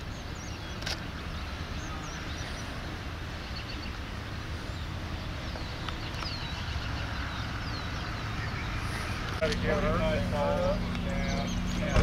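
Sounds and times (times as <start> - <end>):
bird chirping: 0.0 - 9.6, 10.8 - 12.0.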